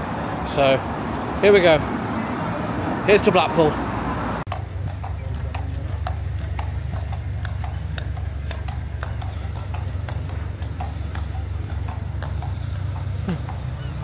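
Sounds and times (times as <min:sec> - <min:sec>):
horse hooves clip-clopping on road: 0:00.9 - 0:14.0.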